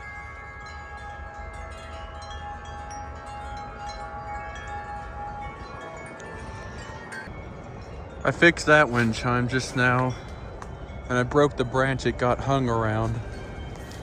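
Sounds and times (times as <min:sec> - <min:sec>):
low wind rumble: 0:00.0 - 0:14.0
wind chimes ringing: 0:00.0 - 0:14.0.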